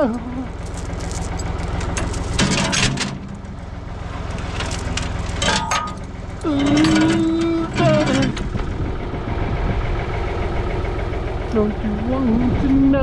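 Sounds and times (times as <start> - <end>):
backhoe loader engine running: 0.0 - 13.0.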